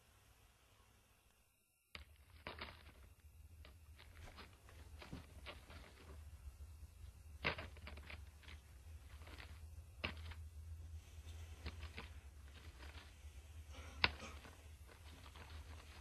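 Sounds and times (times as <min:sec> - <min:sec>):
cloth rustling: 0:02.1 - 0:16.0.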